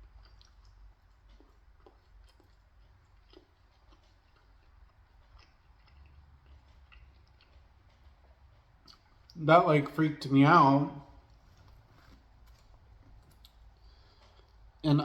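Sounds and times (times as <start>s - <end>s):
quiet chewing with mouth clicks: 0.0s - 10.0s, 11.1s - 14.9s.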